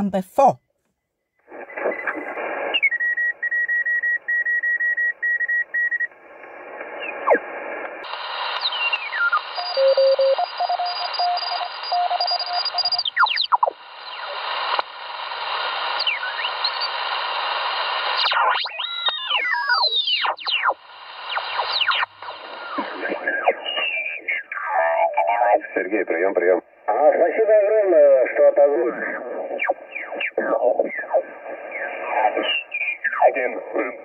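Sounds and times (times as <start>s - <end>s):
radio band hiss: 1.5s - 2.8s, 6.2s - 34.0s.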